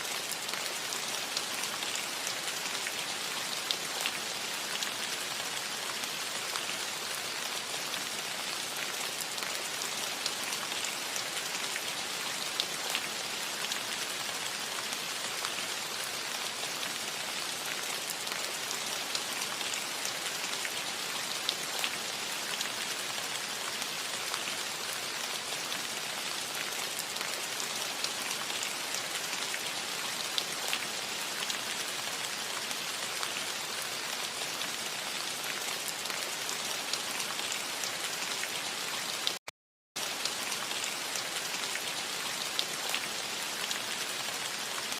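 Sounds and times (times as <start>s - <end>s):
rain on a metal roof: 0.0s - 44.9s.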